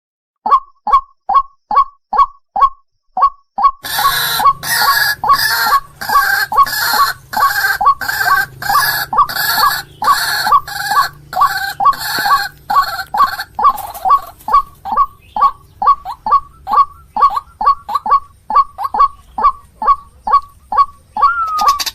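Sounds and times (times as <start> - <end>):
harsh croaking bird calls: 3.2 - 21.9
rapid short bird notes: 3.8 - 21.9.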